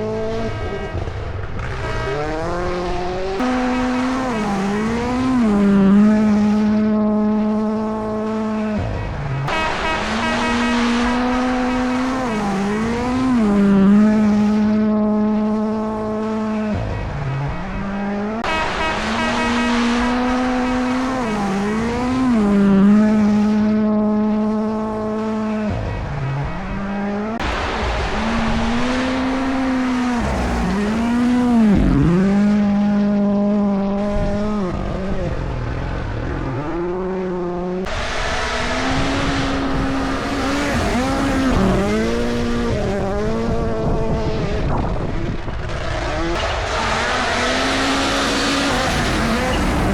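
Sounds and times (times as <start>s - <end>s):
rally car engines at full throttle: 0.0s - 49.9s.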